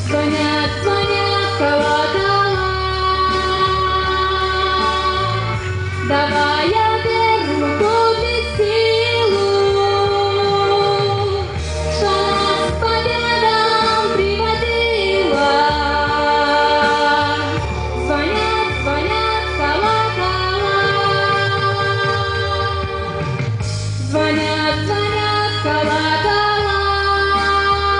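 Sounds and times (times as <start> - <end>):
instrumental accompaniment: 0.0 - 27.9
woman singing: 0.0 - 27.9.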